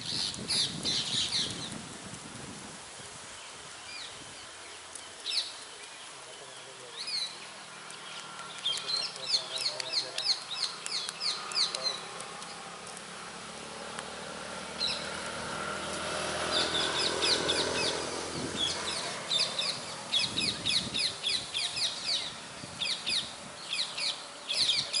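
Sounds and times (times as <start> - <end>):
small birds chirping: 0.0 - 2.0, 2.9 - 25.0.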